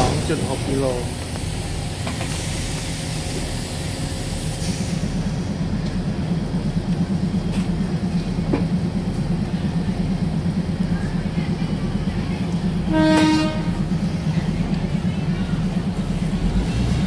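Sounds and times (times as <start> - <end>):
diesel train engine rumbling: 0.0 - 17.0.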